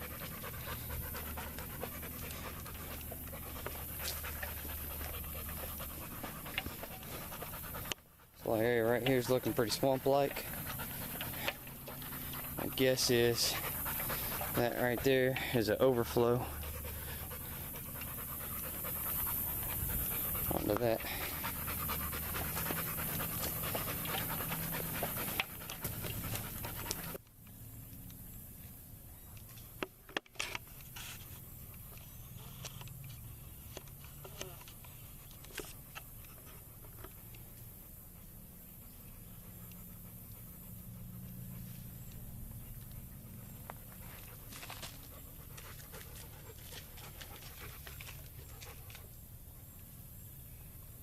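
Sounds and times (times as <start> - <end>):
dog panting: 0.0 - 27.2, 31.8 - 49.8.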